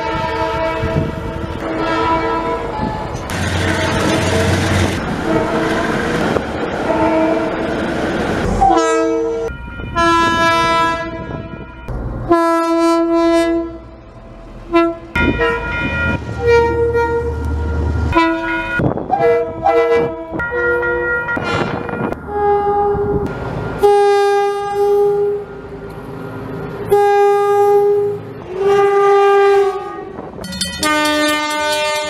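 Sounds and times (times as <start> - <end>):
locomotive air horn blasts: 0.0 - 7.6, 8.6 - 11.7, 12.3 - 14.0, 14.7 - 25.5, 26.8 - 32.0
moving train rumble: 0.0 - 32.0.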